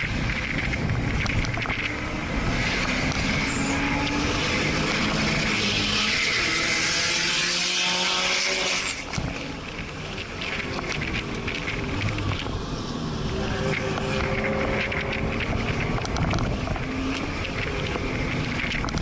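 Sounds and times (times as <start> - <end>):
car engine revving: 0.0 - 19.0
wind and road noise: 0.0 - 19.0.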